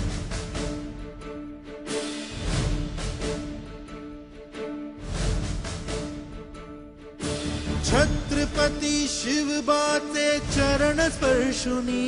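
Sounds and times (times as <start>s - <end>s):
percussion strikes: 0.0s - 12.0s.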